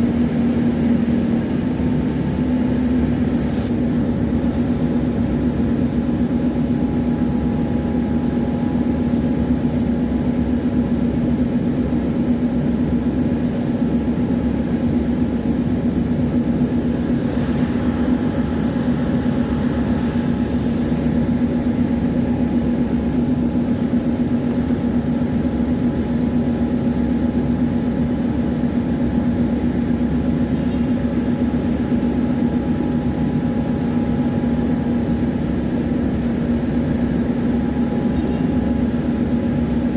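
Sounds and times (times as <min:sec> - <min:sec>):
tram rumbling and humming: 0:00.0 - 0:39.9.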